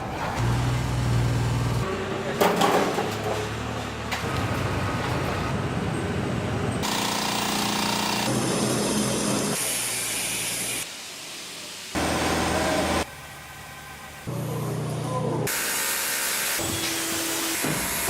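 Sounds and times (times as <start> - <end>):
construction machinery and power tools: 0.0 - 18.0.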